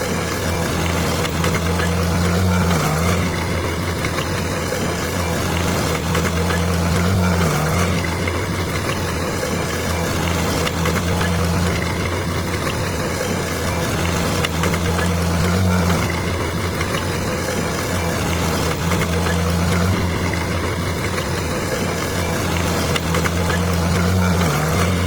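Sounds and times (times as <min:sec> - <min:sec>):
bulldozer diesel engine humming: 0:00.0 - 0:25.0
mechanical clatter: 0:00.0 - 0:25.0.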